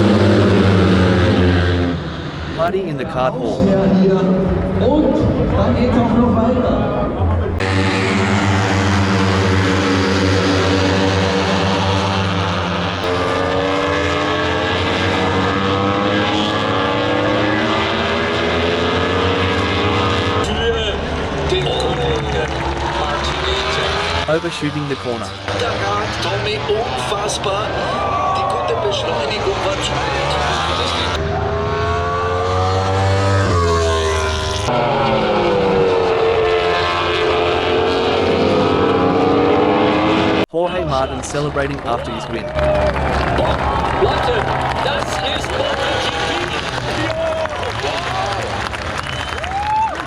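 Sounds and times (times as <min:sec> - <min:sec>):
racing motorcycles revving: 0:00.0 - 0:50.0.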